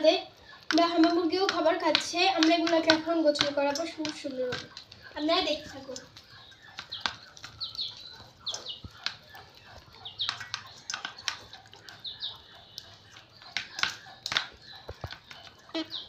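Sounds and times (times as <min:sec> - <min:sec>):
beaks tapping on metal bowl: 0:00.1 - 0:16.0.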